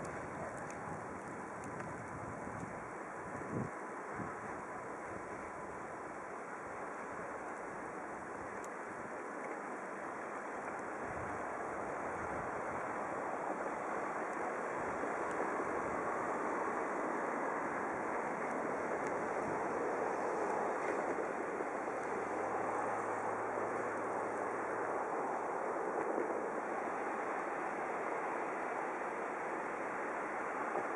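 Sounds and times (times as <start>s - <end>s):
car tyres on snow: 0.0s - 30.9s.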